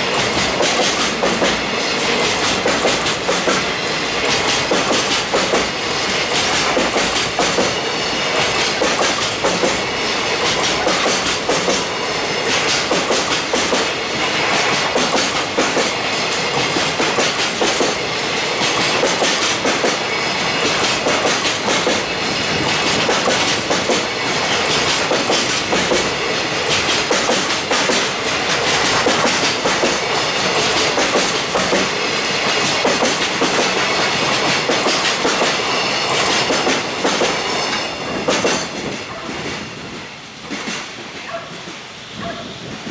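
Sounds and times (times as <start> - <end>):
freight train wheels clattering: 0.0 - 42.9.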